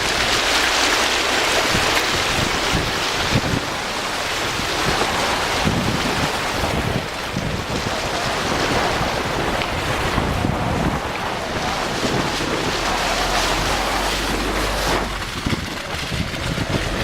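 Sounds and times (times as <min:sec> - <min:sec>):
wind rushing over microphone: 0:01.4 - 0:17.0.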